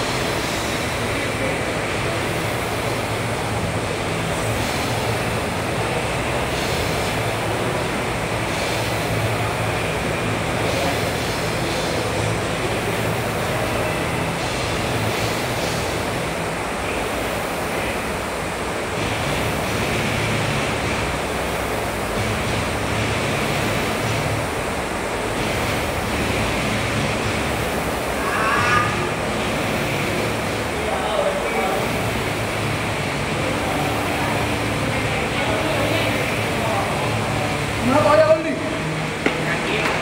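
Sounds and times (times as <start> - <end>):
rowing machine fan whooshing: 0.0 - 40.0.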